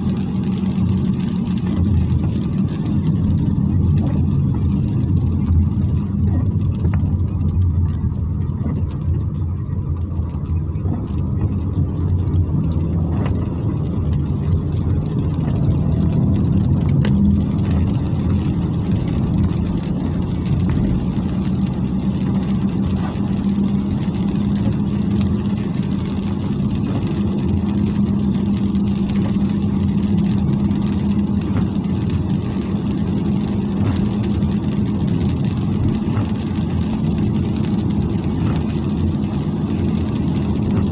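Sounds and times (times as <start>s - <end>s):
car engine and tyre drone: 0.0s - 40.9s.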